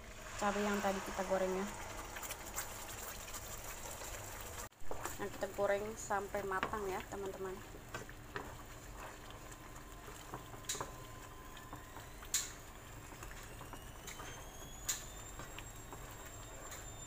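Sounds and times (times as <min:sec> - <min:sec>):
paste frying in oil: 0:00.0 - 0:17.0
wooden spatula stirring: 0:00.4 - 0:14.4, 0:15.2 - 0:16.9.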